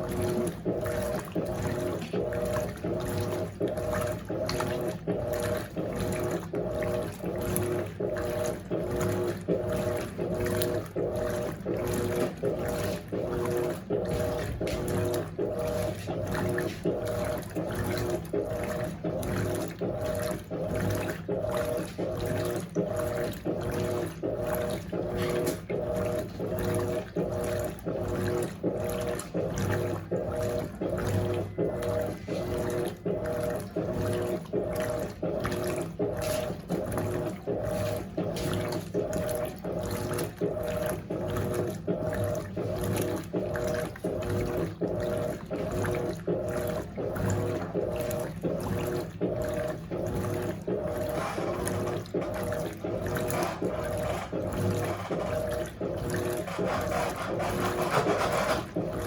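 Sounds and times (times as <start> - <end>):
washing machine motor humming: 0.0 - 59.0
water sloshing in tub: 0.0 - 59.0.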